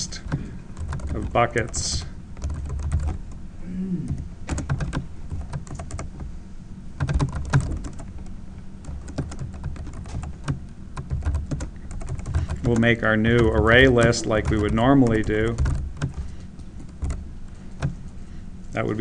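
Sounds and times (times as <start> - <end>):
keyboard typing: 0.0 - 3.4, 4.0 - 6.3, 7.0 - 18.1
low hum: 0.0 - 19.0.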